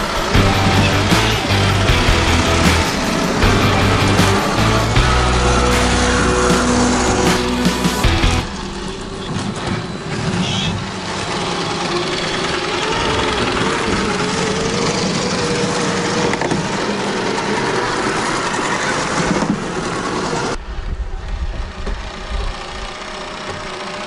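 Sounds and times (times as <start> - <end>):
electric motor and gear whine: 0.0 - 24.0.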